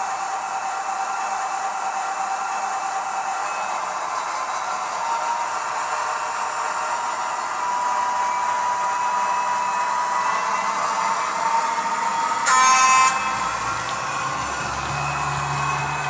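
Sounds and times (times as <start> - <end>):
simulated diesel engine whirring: 0.0 - 16.0.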